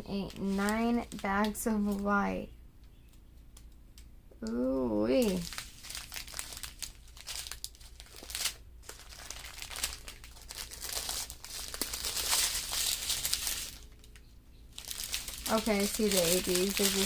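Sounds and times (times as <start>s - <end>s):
plastic bags crinkling: 0.0s - 2.1s, 4.4s - 17.0s.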